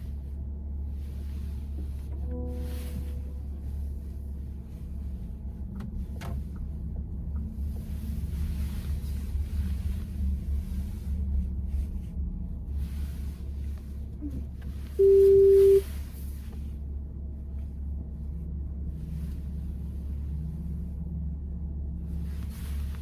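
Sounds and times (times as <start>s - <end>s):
road and tyre rumble: 0.0s - 23.0s.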